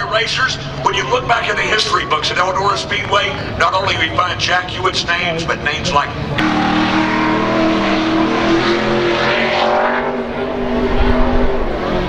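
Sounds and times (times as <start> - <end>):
race truck engine running: 0.0 - 12.0.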